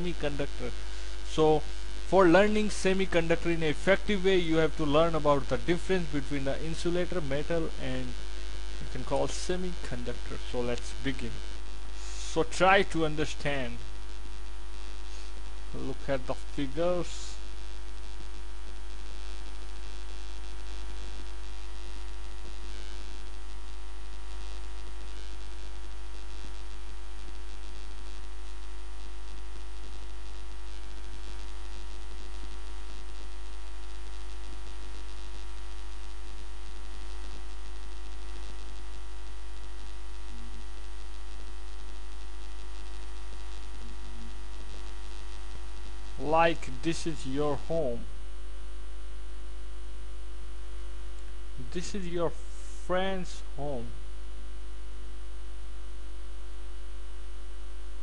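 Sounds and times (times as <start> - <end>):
faint high steady tone: 0.0 - 58.0
low electrical hum: 0.0 - 58.0.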